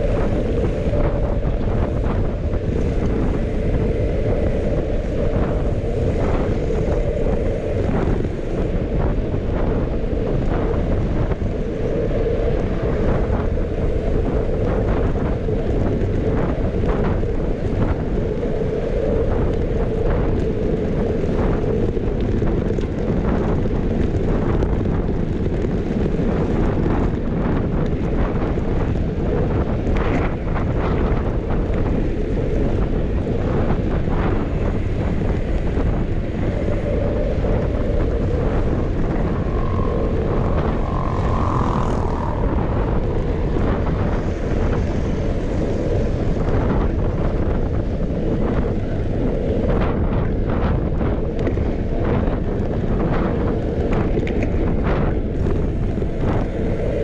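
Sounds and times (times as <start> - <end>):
road rumble: 0.0 - 57.0
wind buffeting microphone: 0.0 - 57.0.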